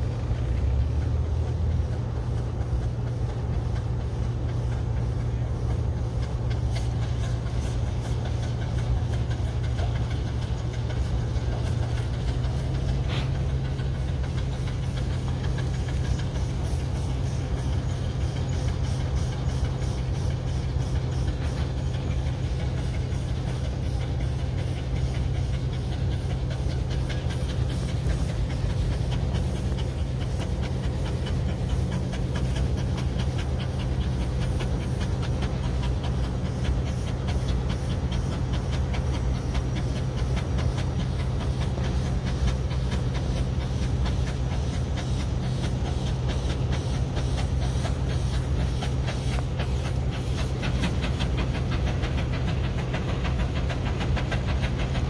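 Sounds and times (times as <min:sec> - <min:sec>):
low engine rumble: 0:00.0 - 0:55.0
steam engine exhaust chuffing: 0:00.0 - 0:55.0.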